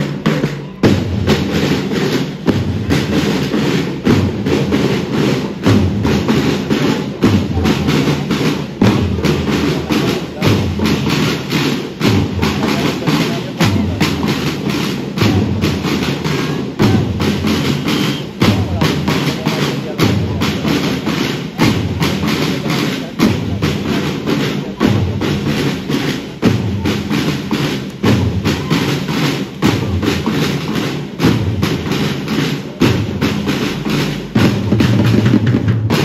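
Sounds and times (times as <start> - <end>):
heavy low drum beats: 0.0 - 36.0
side drums marching rhythm: 0.0 - 36.0.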